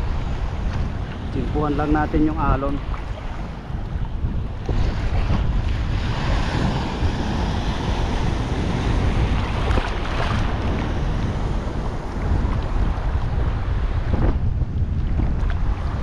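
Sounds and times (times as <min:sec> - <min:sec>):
surf breaking: 0:00.0 - 0:16.0
wind buffeting microphone: 0:00.0 - 0:16.0.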